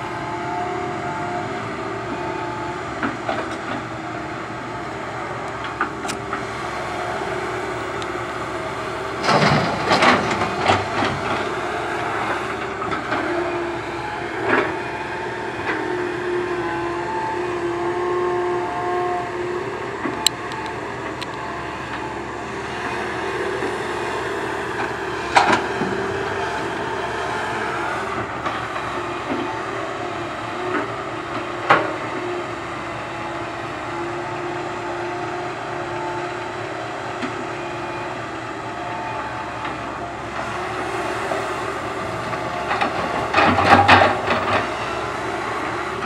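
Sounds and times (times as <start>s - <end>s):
excavator engine and hydraulics: 0.0s - 46.0s.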